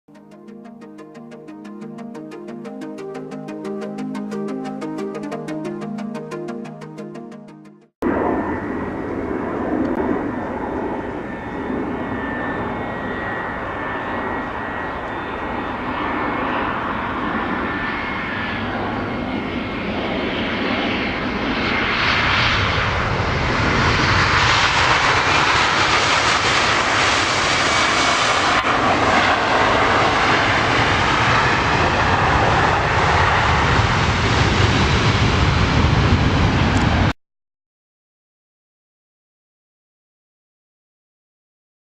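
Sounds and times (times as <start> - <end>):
jet engines whining: 0.1 - 37.1.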